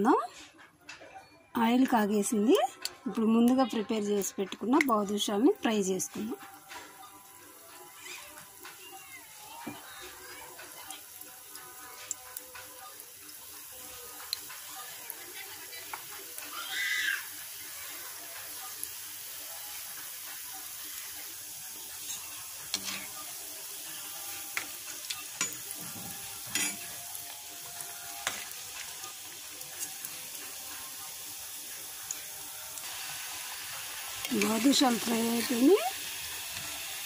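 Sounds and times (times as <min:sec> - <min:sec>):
dough deep-frying in hot oil: 0:01.6 - 0:37.0.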